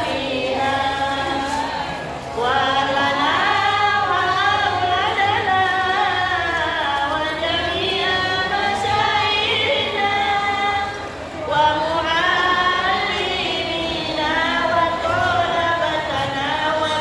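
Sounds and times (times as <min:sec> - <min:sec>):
amplified singing voice: 0:00.0 - 0:17.0
women singing a devotional chant: 0:00.0 - 0:17.0.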